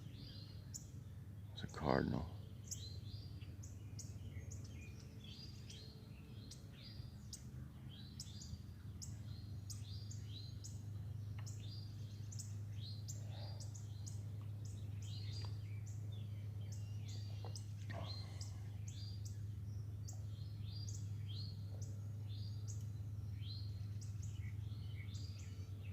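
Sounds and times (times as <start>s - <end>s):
songbirds chirping and singing: 0.0s - 25.9s
steady low hum: 0.0s - 25.9s.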